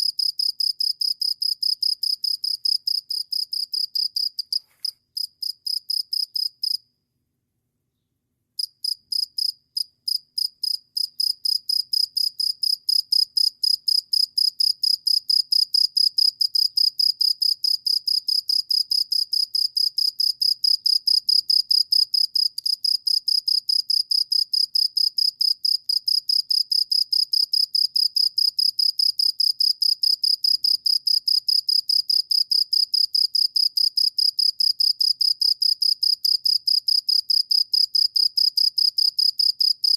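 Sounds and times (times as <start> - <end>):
cricket chirping: 0.0 - 6.8, 8.6 - 39.9.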